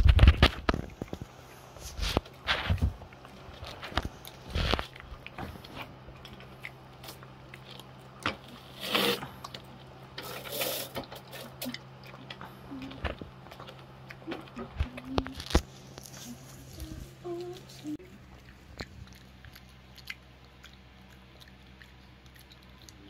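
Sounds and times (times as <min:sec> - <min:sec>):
dog crunching and chewing: 0:00.0 - 0:23.0
faint low hum: 0:00.0 - 0:23.0.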